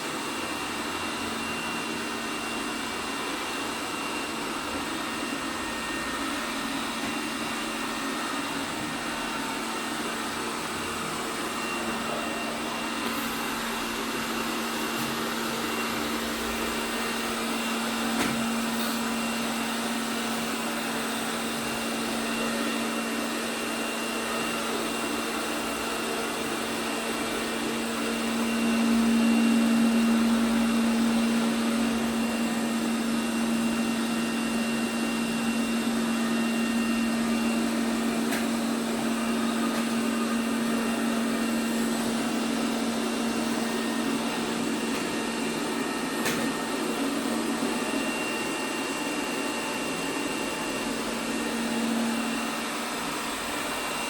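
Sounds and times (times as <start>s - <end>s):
robot vacuum running: 0.0s - 54.0s.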